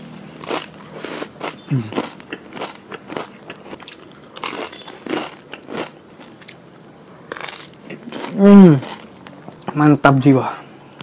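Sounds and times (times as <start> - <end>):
person chewing and crunching: 0.0 - 9.8.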